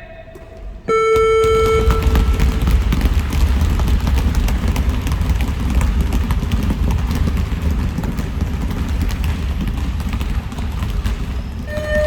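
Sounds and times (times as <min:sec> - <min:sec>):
basketballs bouncing: 0:00.1 - 0:12.0.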